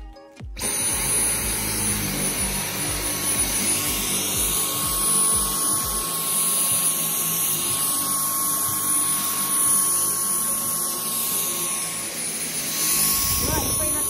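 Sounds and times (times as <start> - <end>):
high-pitched motor whine: 0.6 - 14.0
vacuum cleaner air rush: 0.6 - 14.0.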